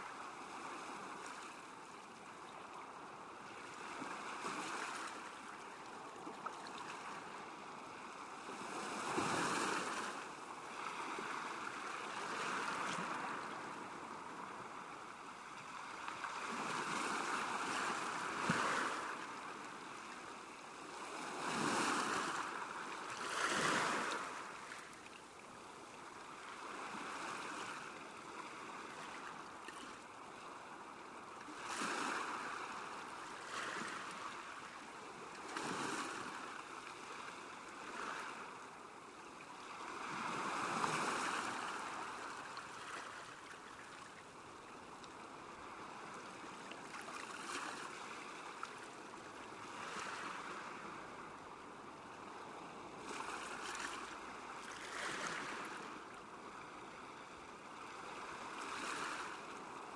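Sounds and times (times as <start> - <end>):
small waves lapping on shore: 0.0 - 59.9.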